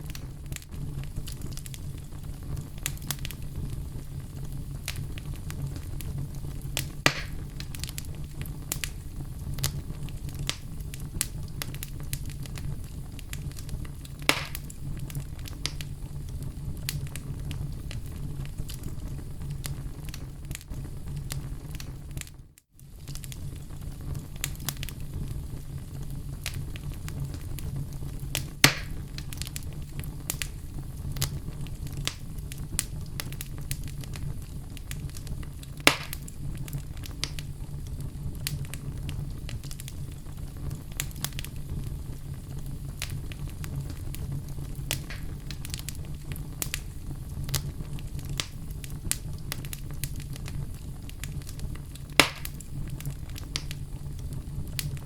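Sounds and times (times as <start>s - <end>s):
fire crackling: 0.0s - 55.0s
loud fire pops: 0.0s - 55.0s
low rumble of flames: 0.0s - 55.0s.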